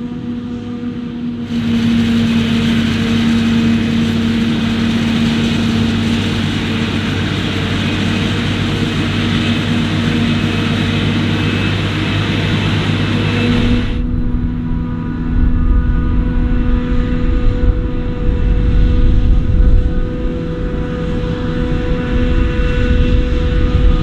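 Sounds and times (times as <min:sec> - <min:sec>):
diesel engine hum: 0:00.0 - 0:24.0.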